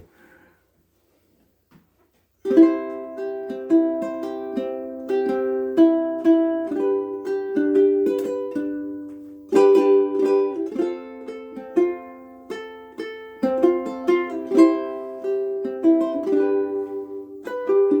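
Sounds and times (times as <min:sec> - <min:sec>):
ukulele playing: 0:02.4 - 0:18.0.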